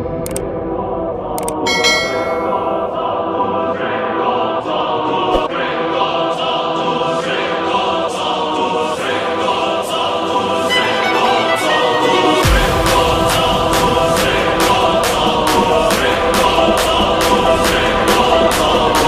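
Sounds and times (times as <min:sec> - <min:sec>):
choir singing long notes: 0:00.6 - 0:19.0.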